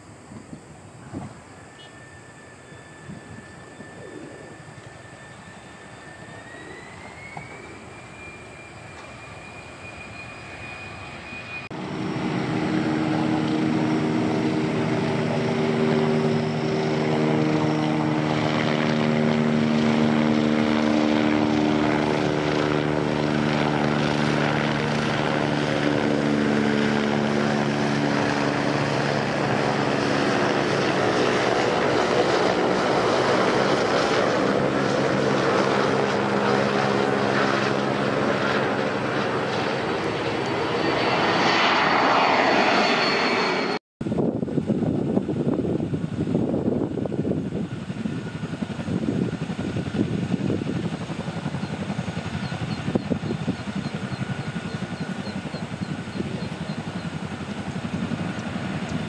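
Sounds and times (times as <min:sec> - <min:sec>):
jet engine whine: 0:00.0 - 0:59.0
loud jet noise: 0:00.0 - 0:59.0.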